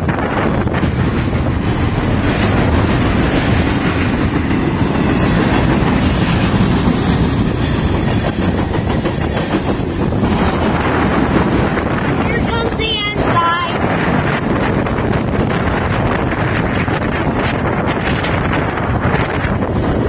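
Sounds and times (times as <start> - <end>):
clickety-clack of wheels: 0.0 - 12.2, 14.1 - 20.0
train wheels rumbling on rail: 0.0 - 20.0.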